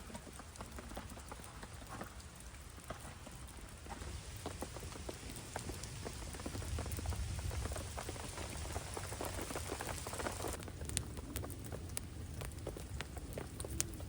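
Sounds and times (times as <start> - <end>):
rain falling: 0.0 - 14.0
raindrops ticking: 0.0 - 14.0.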